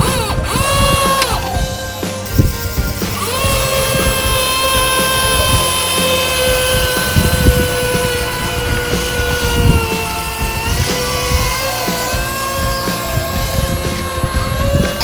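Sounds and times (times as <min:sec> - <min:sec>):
electric gear motor whining: 0:00.0 - 0:15.0.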